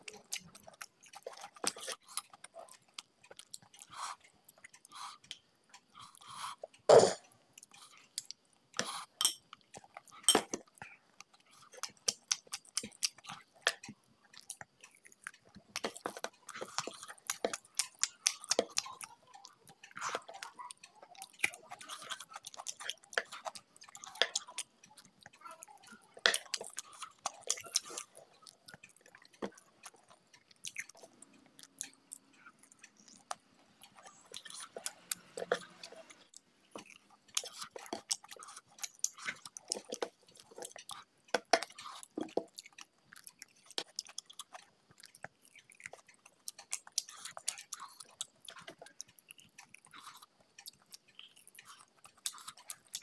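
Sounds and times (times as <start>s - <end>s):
person chewing and lip-smacking: 0.0s - 53.0s.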